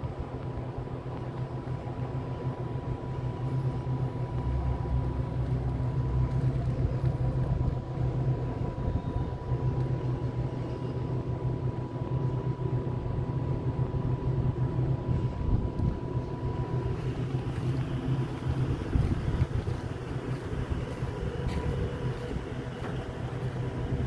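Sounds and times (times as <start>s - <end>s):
electric locomotive hum: 0.0s - 24.0s.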